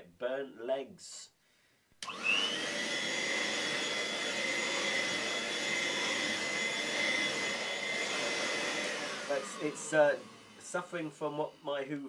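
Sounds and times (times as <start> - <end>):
vacuum cleaner motor whine: 2.0 - 12.0.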